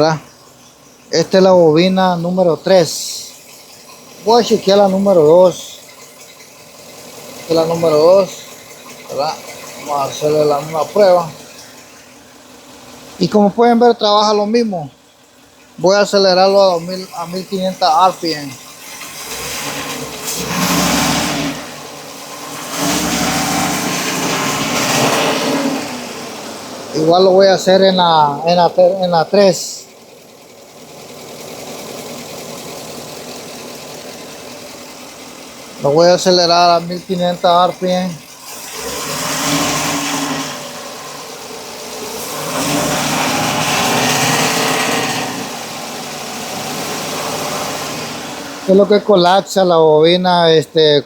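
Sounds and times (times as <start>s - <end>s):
misfiring engine revving: 0.0s - 50.7s.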